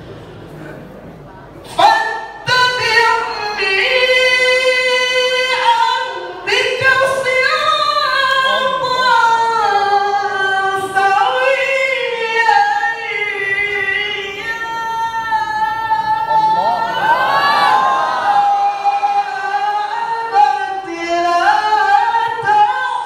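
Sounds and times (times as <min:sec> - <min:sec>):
person reciting melodically: 0:01.6 - 0:23.0.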